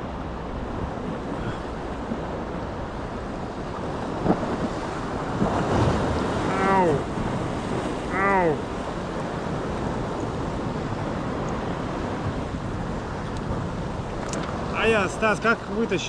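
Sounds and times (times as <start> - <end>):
surf on rocky shore: 0.0 - 16.0
wind buffeting microphone: 0.0 - 16.0.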